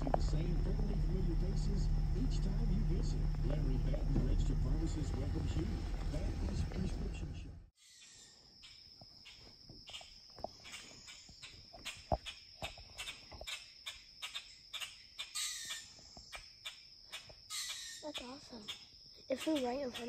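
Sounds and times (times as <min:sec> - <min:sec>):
insect trill: 0:00.0 - 0:05.4, 0:07.8 - 0:20.0.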